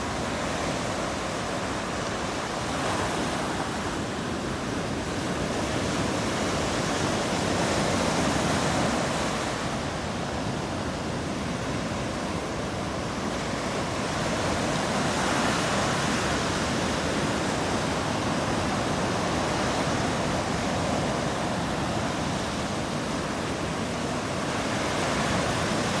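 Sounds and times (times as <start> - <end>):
ocean surf breaking on beach: 0.0 - 26.0.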